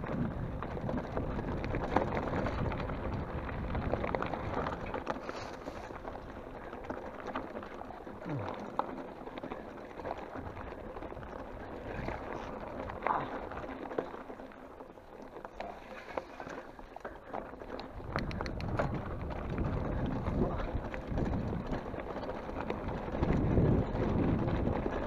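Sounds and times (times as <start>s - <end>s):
bike rattling over bumps: 0.0s - 25.0s
tyres crunching over gravel: 0.0s - 25.0s.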